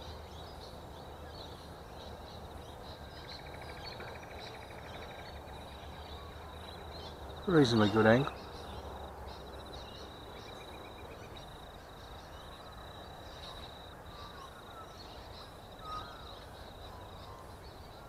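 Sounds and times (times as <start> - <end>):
bird calling: 3.0 - 18.0.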